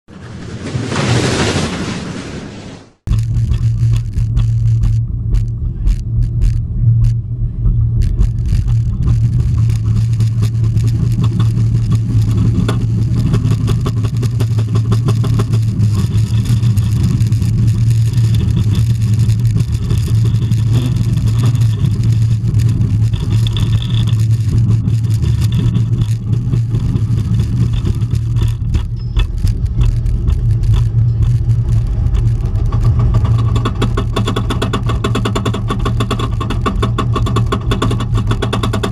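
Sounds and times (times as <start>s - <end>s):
roller coaster rumbling: 0.1s - 38.9s.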